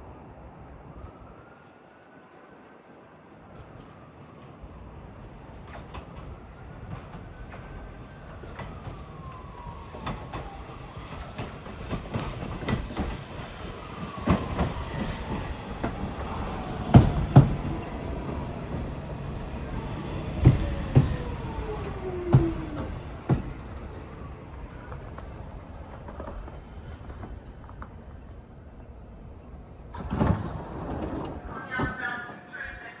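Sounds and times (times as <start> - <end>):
subway train approaching: 0.0 - 33.0
wheels clicking over rail joints: 4.6 - 33.0.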